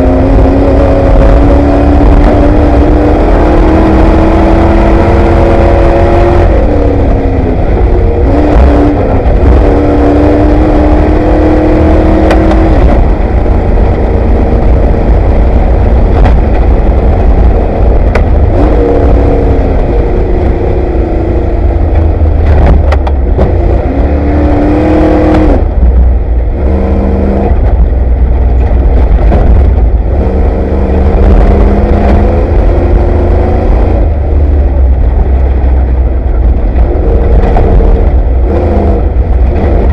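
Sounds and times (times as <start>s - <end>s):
race vehicle engine under load: 0.0s - 39.9s.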